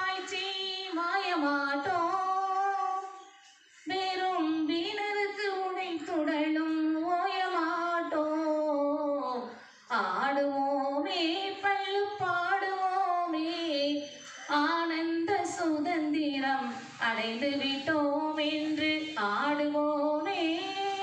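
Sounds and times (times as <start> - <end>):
woman singing into a microphone: 0.0 - 3.2, 3.8 - 21.0.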